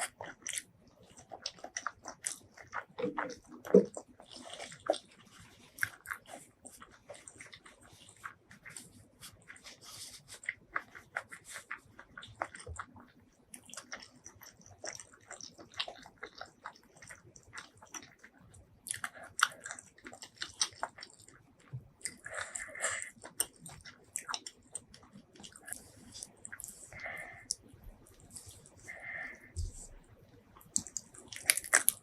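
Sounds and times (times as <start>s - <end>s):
chewing and biting food: 0.0s - 32.0s.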